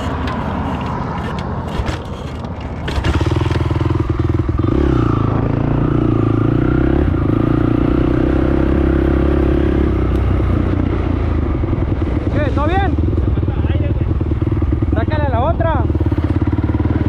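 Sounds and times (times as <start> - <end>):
quad engine accelerating: 0.0 - 17.0.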